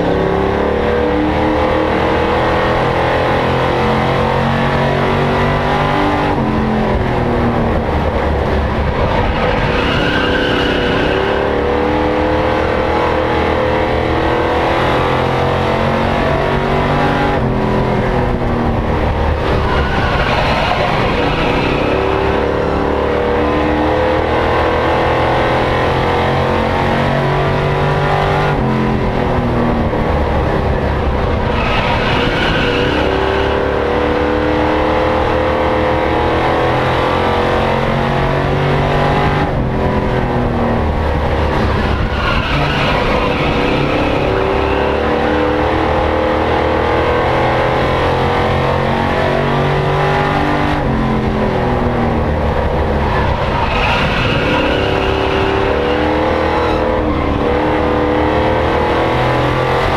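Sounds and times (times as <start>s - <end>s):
race truck engine revving: 0.0s - 59.9s.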